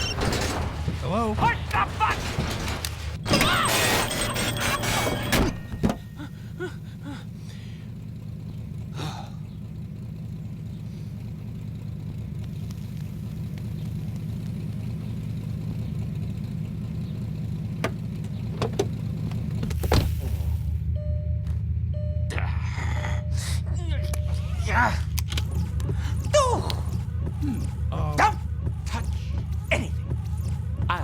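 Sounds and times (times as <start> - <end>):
car engine humming: 0.0 - 31.0.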